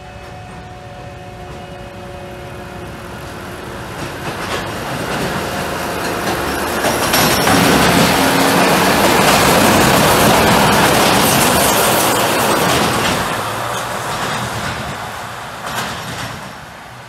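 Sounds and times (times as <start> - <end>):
train wheels rumbling on rails: 0.0 - 17.0
wheels clicking over rail joints: 3.2 - 17.0.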